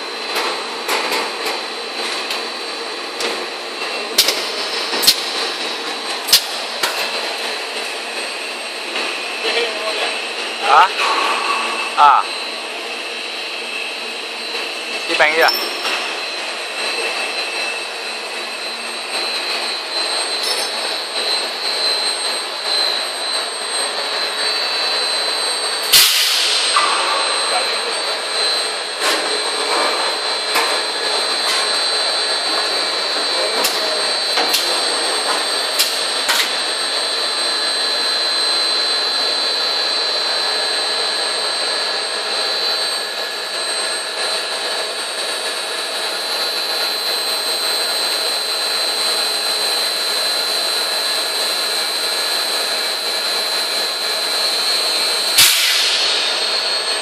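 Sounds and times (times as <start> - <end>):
machine mechanical whine: 0.0 - 57.0.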